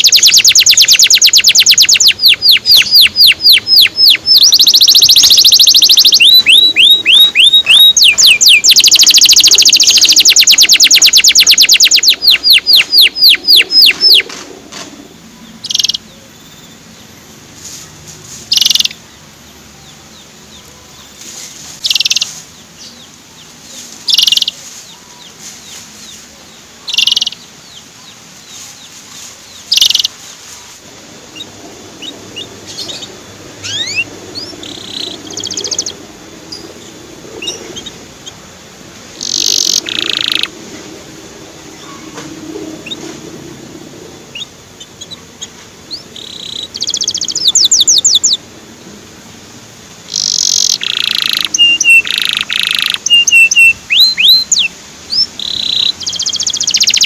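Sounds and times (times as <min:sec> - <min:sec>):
canary singing: 0:00.0 - 0:30.4, 0:31.2 - 0:40.6, 0:41.4 - 0:48.5, 0:50.0 - 0:57.0.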